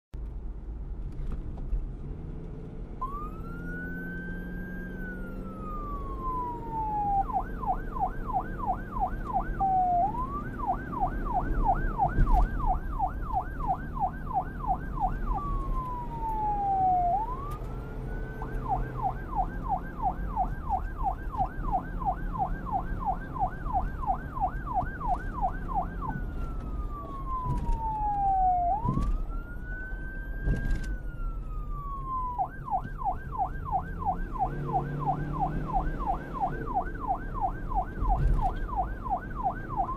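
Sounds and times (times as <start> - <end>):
police siren wail and yelp: 3.0 - 39.9.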